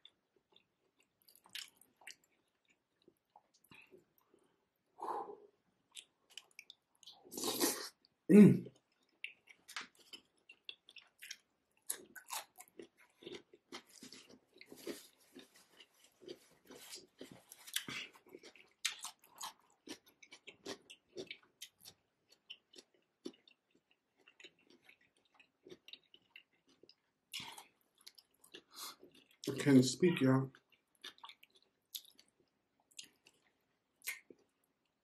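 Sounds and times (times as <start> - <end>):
wet chewing: 0.5 - 4.0, 8.8 - 29.5, 30.6 - 34.5.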